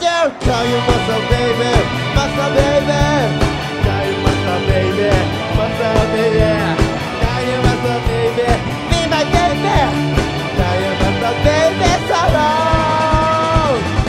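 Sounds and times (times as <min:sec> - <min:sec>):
drums steady beat: 0:00.0 - 0:14.0
electric guitar lead bending pitch: 0:00.0 - 0:14.0
rock band playing: 0:00.0 - 0:14.0.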